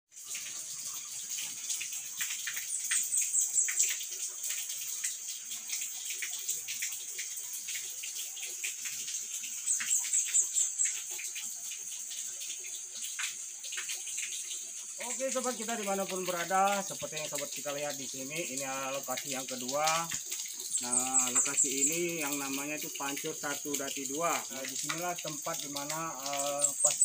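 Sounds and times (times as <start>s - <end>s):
water pouring and splashing: 0.1s - 27.0s.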